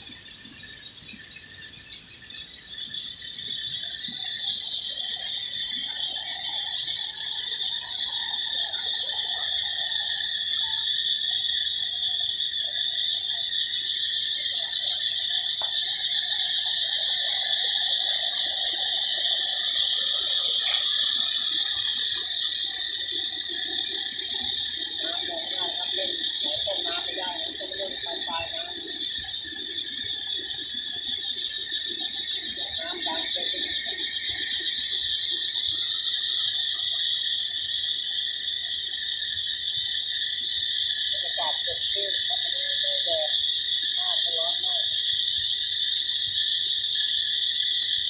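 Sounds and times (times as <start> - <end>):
high-pitched insect chorus: 0.0 - 48.0.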